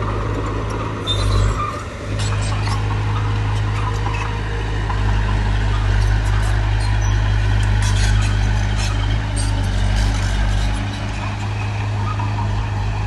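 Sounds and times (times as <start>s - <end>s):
light clanks and rattles: 0.0s - 12.5s
diesel engine drone: 0.0s - 13.0s.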